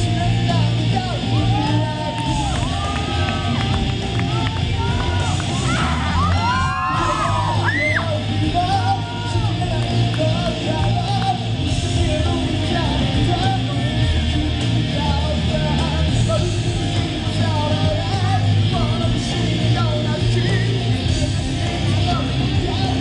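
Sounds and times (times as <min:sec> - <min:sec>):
electric guitar heavy rock: 0:00.0 - 0:23.0
heavy steady bass: 0:00.0 - 0:23.0.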